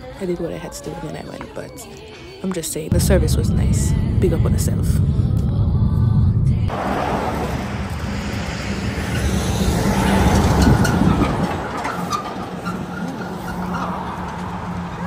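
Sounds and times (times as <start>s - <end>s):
truck passing by: 2.9s - 15.0s.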